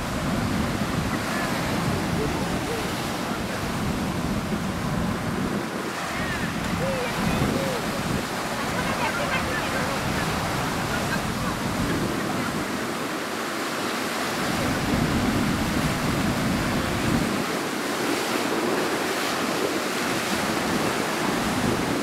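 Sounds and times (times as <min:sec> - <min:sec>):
sea surf breaking over rocks: 0:00.0 - 0:22.0
wind buffeting microphone: 0:00.0 - 0:22.0.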